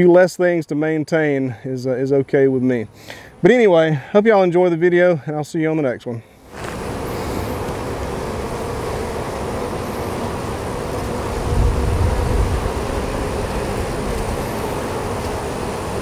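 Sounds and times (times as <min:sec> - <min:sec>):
honeybees humming: 0:00.0 - 0:16.0.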